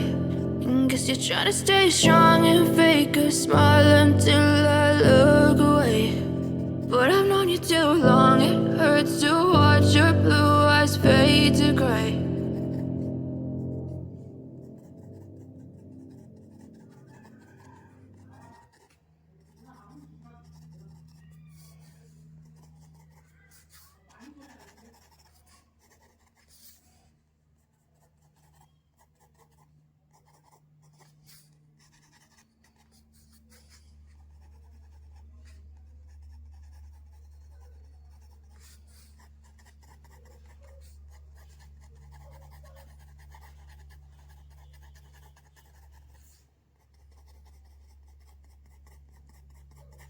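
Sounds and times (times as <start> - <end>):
pencil scratching on paper: 0.0 - 50.0.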